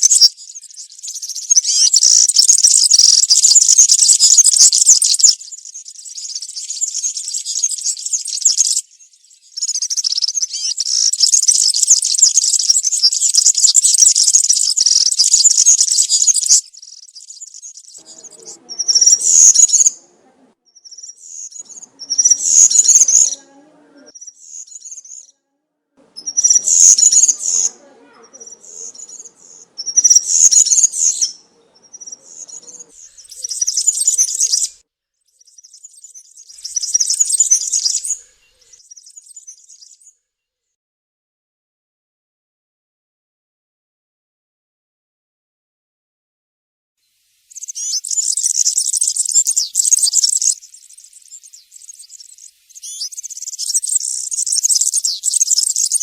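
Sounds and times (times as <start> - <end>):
bird singing high-pitched song: 0.0 - 25.4, 26.0 - 40.5, 47.5 - 56.0.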